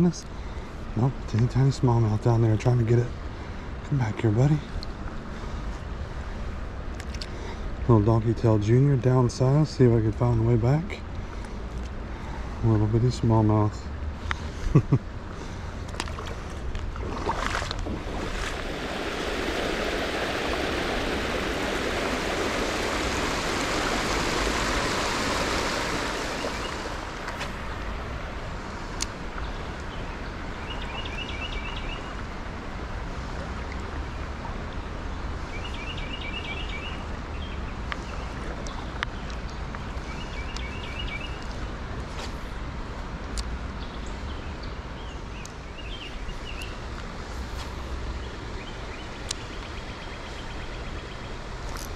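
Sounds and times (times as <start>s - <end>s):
creek water flowing: 0.0s - 51.9s.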